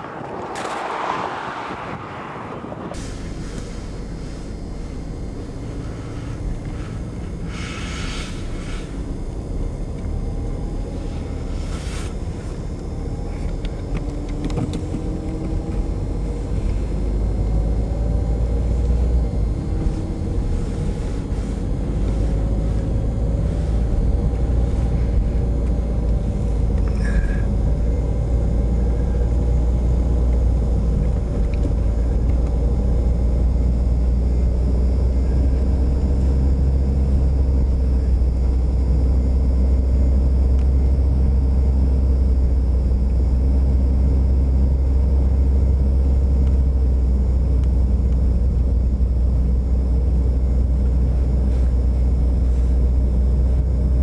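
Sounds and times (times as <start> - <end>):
car driving heard from inside: 0.0 - 54.0.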